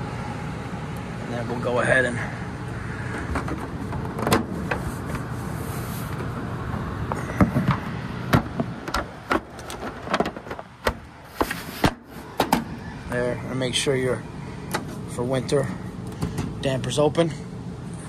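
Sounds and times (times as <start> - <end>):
gas furnace humming: 0.0 - 18.0.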